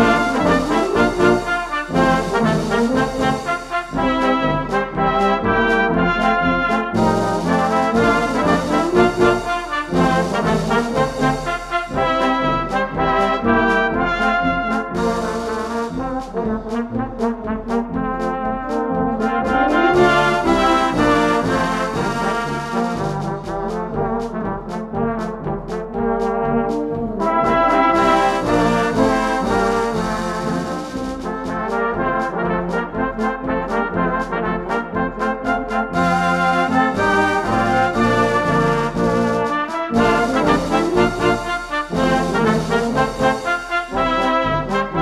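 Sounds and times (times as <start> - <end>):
bass line: 0.0 - 45.0
brass melody and chords: 0.0 - 45.0
percussion beat: 0.0 - 45.0.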